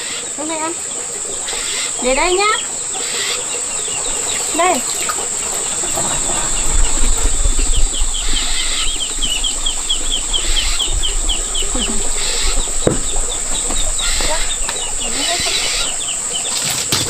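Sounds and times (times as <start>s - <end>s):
chicks peeping: 0.0s - 17.0s
wings flapping: 0.8s - 17.0s.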